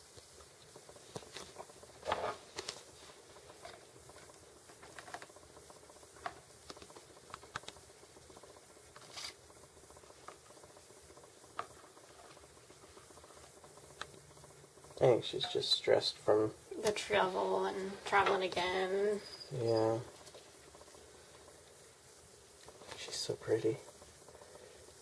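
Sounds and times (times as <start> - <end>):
gecko scuffling: 0.8 - 22.0.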